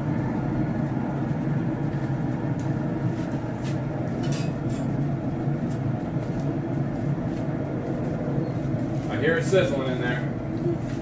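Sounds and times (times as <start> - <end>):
smoker fan humming: 0.0 - 11.0.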